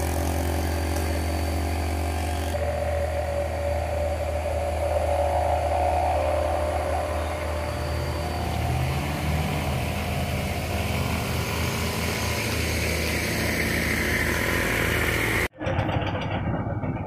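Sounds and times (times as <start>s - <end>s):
car engines climbing a hill: 0.0s - 17.0s.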